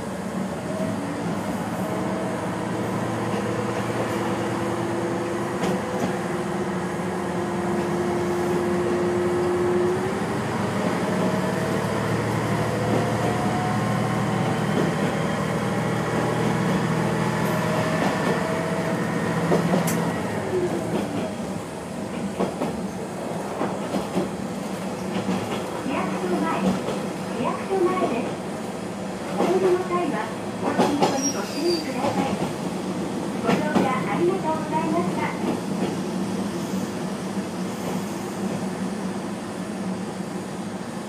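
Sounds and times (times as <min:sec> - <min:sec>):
diesel railcar engine hum: 0:00.0 - 0:41.0.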